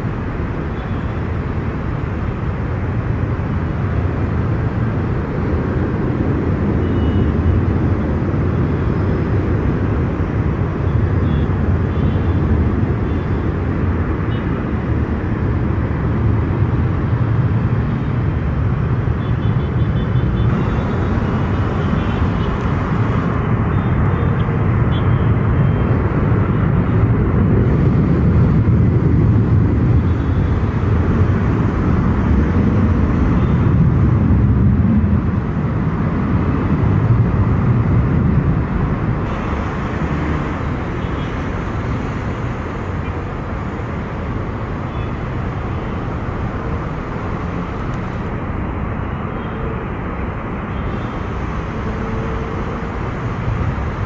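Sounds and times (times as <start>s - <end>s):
jet engines deep rumble: 0.0s - 54.0s.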